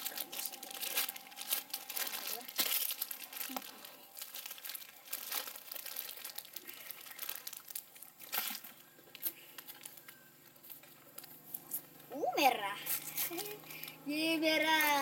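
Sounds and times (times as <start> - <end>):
paper wrappers tearing and crinkling: 0.0 - 15.0.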